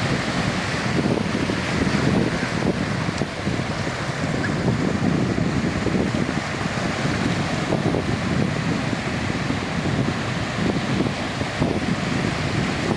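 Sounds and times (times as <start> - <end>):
sea waves washing onto beach: 0.0 - 12.9
wind rumbling on microphone: 0.0 - 12.9.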